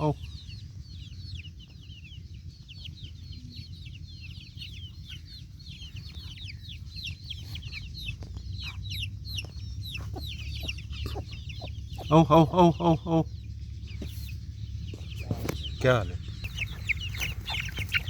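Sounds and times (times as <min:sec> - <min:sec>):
baby chicks peeping: 0:00.0 - 0:18.0
steady low hum: 0:00.0 - 0:18.0.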